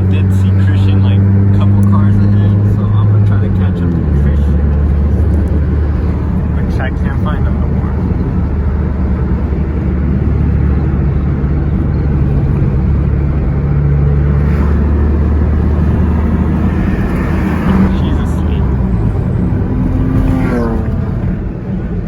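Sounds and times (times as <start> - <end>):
car interior engine drone: 0.0 - 22.0.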